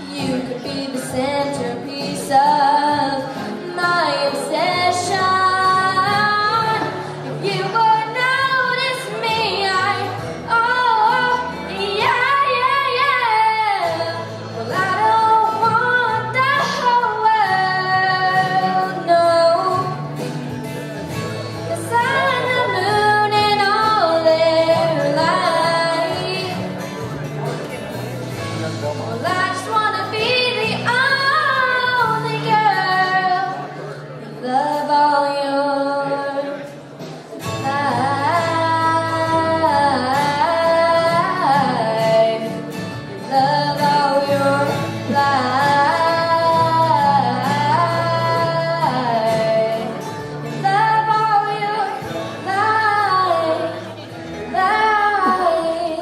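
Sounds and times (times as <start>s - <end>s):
woman singing: 0.0s - 20.1s, 21.7s - 26.9s, 29.0s - 36.7s, 37.4s - 56.0s.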